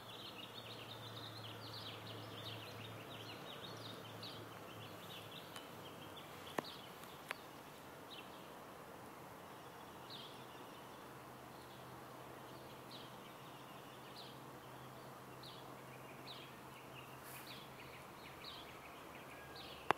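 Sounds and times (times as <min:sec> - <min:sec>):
small birds chirping: 0:00.0 - 0:19.9
steady background hiss: 0:00.0 - 0:19.9.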